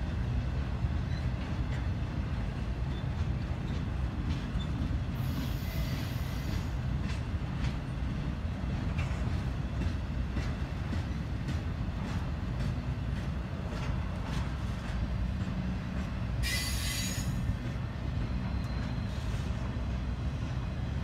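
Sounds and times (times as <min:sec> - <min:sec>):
freight train rumbling: 0:00.0 - 0:21.0
train wheel clicks: 0:01.0 - 0:19.8.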